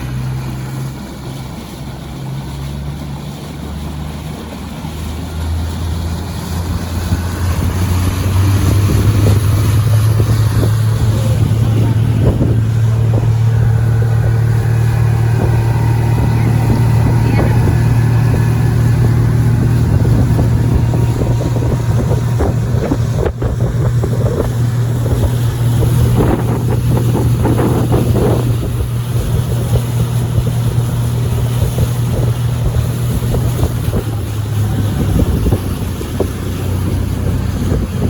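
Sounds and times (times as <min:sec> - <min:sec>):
motorboat engine humming: 0:00.0 - 0:38.0
wind buffeting microphone: 0:00.0 - 0:38.0.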